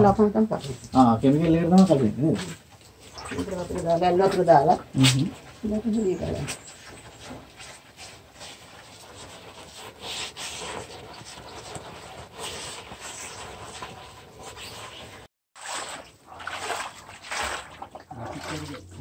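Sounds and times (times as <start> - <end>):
wet cloth sloshing in water: 0.6 - 19.0.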